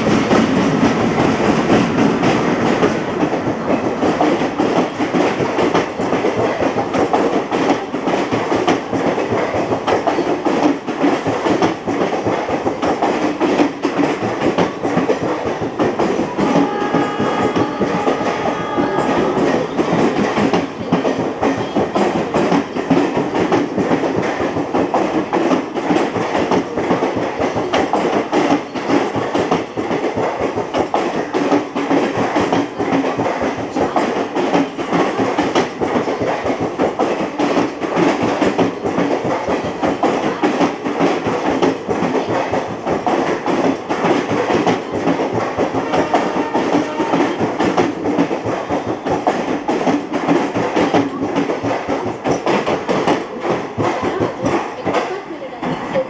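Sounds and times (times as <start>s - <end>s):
train wheels clattering over rail joints: 0.0s - 56.0s.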